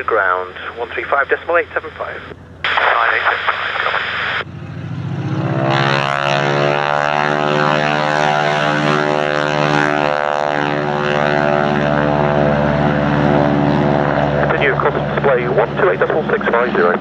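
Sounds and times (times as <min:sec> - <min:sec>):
propeller aircraft engine running: 0:00.0 - 0:17.0.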